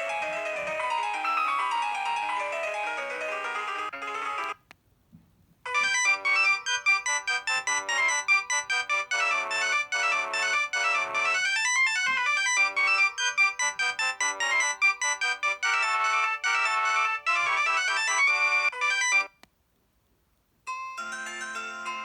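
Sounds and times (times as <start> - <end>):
phone ringtone melody: 0.0 - 4.6, 5.7 - 19.4, 20.7 - 22.0.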